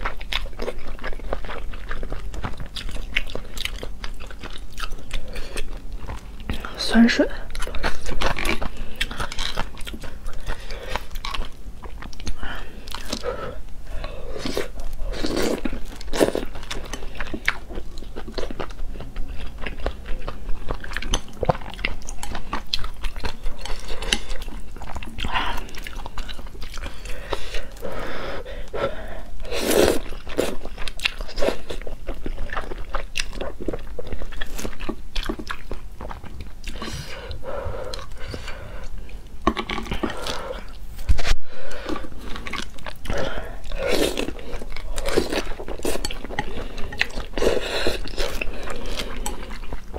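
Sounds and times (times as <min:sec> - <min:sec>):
chewing with wet mouth sounds: 0:00.0 - 0:49.9.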